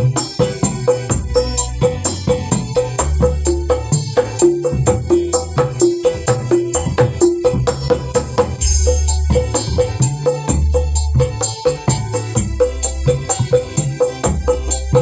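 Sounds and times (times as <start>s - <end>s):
hand drum rhythm: 0.0s - 15.0s
music track with bass line: 0.0s - 15.0s.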